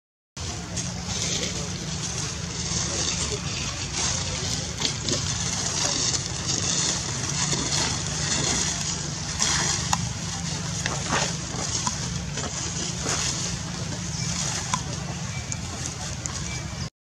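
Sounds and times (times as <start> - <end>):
low rumble: 0.4 - 16.8
rustling: 0.4 - 16.9.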